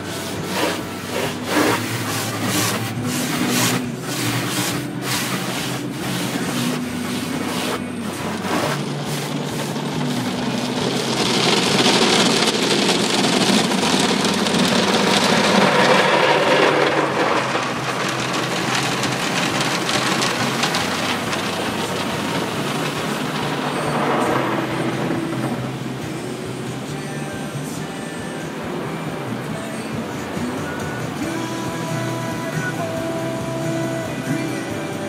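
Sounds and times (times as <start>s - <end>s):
car wash water jets spraying: 0.0s - 35.0s.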